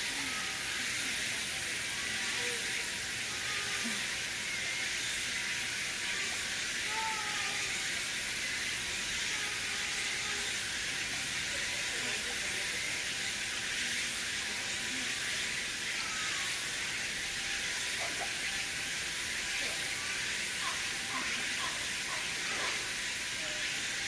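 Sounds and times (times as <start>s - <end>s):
faint voice-like calls: 0.0s - 24.0s
steady hiss: 0.0s - 24.0s.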